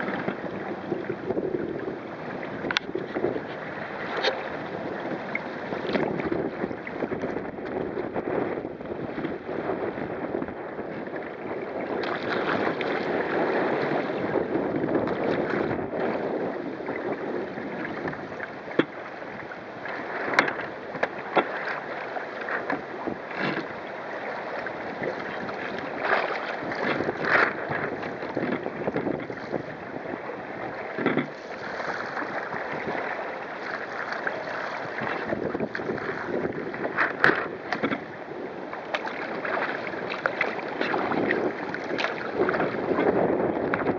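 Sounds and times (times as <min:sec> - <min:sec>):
wind buffeting microphone: 0:00.0 - 0:21.7, 0:22.4 - 0:43.9
water slapping against hull: 0:00.0 - 0:43.9.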